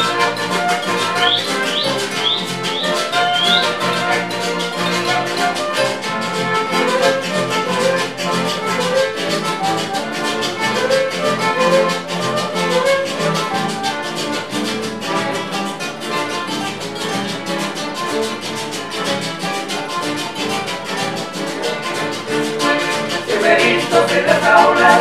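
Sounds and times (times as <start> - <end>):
accordion: 0.0 - 25.0
strummed acoustic guitars: 0.0 - 25.0
violin melody: 0.0 - 25.0.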